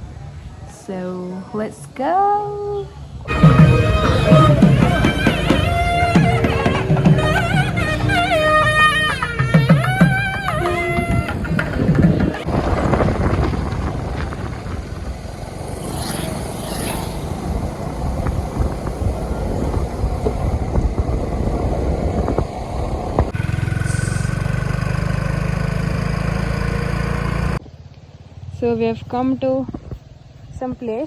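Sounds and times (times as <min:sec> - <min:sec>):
vehicle engine and road noise: 0:03.0 - 0:31.0
low engine hum: 0:03.3 - 0:30.0.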